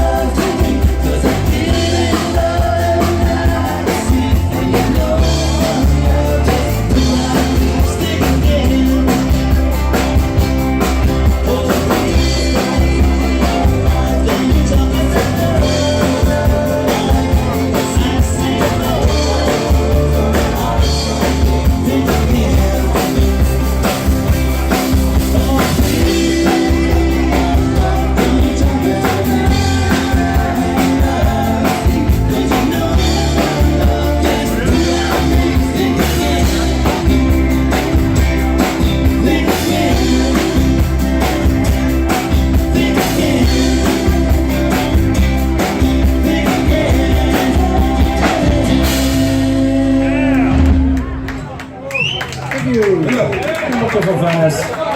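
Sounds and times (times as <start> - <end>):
drum kit beat: 0.0 - 51.5
live rock band playing: 0.0 - 54.8.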